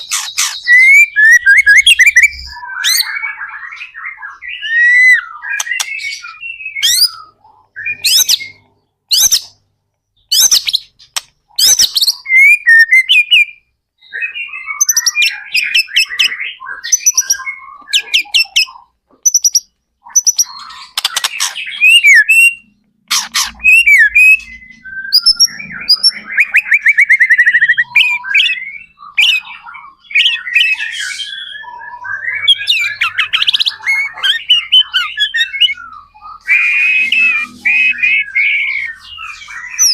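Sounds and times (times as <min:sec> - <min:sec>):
bird singing whistled notes and trills: 0:00.0 - 0:39.9.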